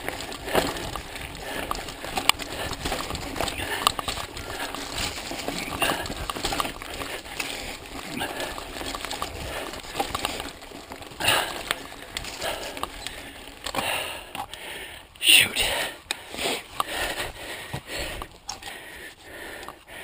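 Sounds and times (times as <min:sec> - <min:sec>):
bike rattling over bumps: 0:00.0 - 0:20.0
tyres on dirt and rocks: 0:00.0 - 0:20.0.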